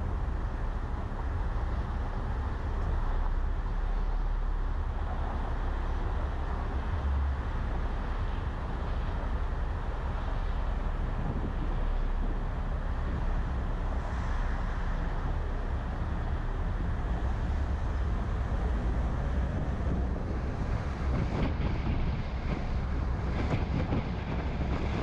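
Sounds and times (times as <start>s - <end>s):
car driving in traffic: 0.0s - 25.0s.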